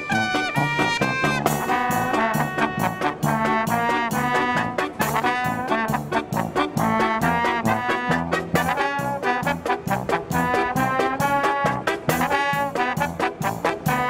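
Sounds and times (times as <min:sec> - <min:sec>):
marching brass band playing: 0:00.0 - 0:14.0.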